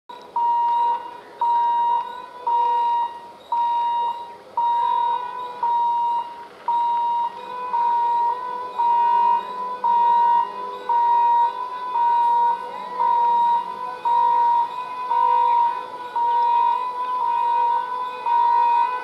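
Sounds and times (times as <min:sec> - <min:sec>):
electronic warning beeps: 0:00.1 - 0:19.0.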